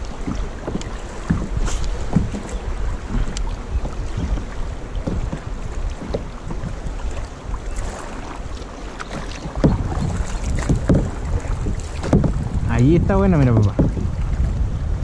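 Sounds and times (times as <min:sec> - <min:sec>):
paddle splashing in water: 0:00.0 - 0:15.0
water sloshing against kayak hull: 0:00.0 - 0:15.0
wind buffeting microphone: 0:00.0 - 0:15.0.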